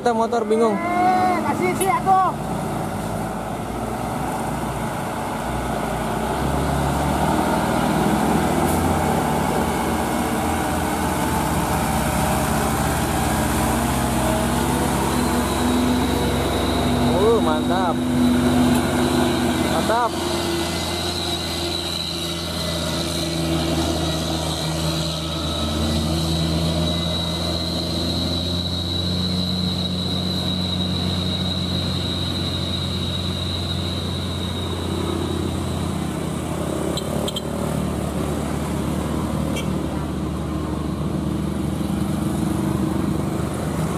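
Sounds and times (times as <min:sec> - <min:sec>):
diesel truck engine climbing: 0:00.0 - 0:43.9
motorcycle engines: 0:00.0 - 0:43.9.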